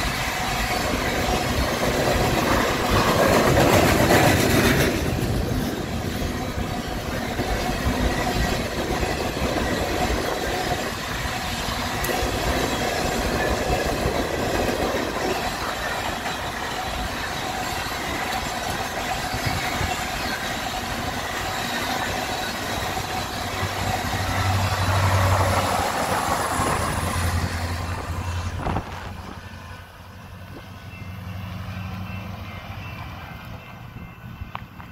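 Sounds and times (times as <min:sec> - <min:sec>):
train wheels rolling on rail: 0:00.0 - 0:34.9.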